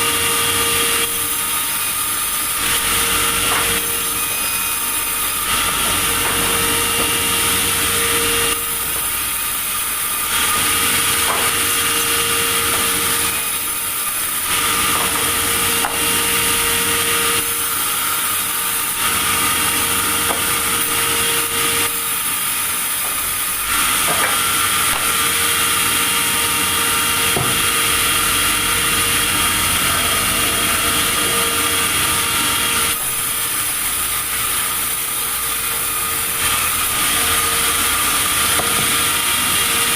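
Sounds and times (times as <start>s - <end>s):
saw cutting through timber: 0.0s - 39.9s.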